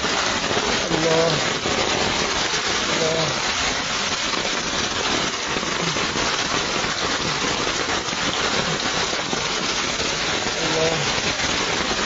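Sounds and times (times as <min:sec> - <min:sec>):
heavy rain falling on water: 0:00.0 - 0:12.0.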